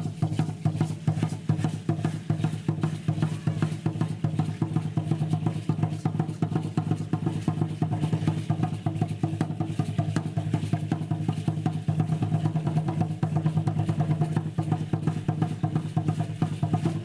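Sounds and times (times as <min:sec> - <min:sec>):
fast continuous drumming: 0:00.0 - 0:17.0.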